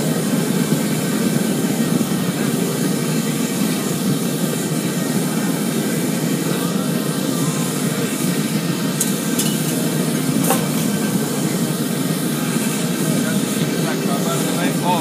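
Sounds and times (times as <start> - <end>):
oil burner rushing: 0.0 - 15.0.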